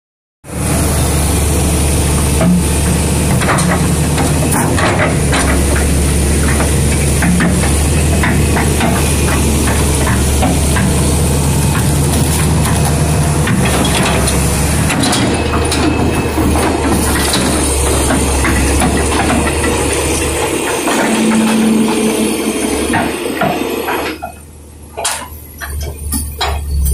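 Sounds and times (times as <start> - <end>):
diesel engine droning: 0.4 - 26.9.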